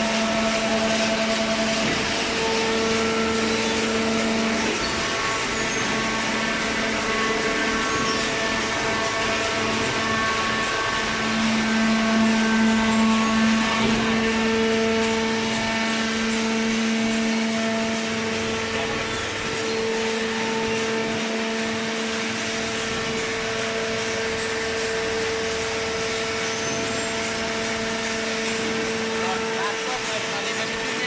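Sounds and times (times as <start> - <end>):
hydraulic baler motor humming: 0.0 - 31.0.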